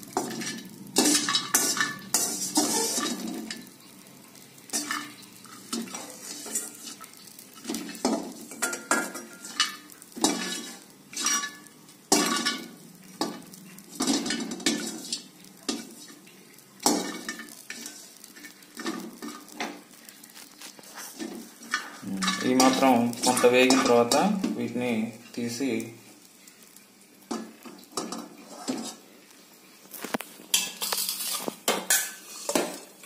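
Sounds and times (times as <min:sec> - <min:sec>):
metal spoon scraping wok: 0:00.1 - 0:03.8, 0:04.7 - 0:24.6, 0:28.0 - 0:29.0, 0:29.9 - 0:33.0.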